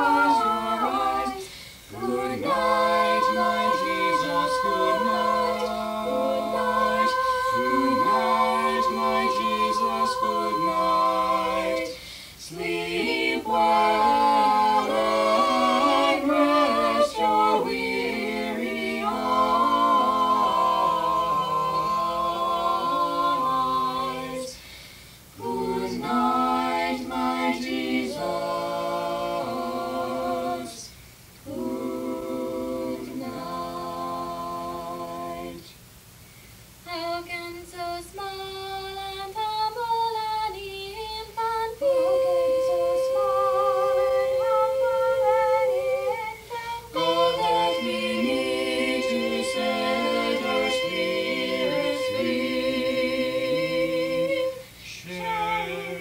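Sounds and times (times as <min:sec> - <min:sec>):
a cappella vocal quartet singing: 0:00.0 - 0:56.0.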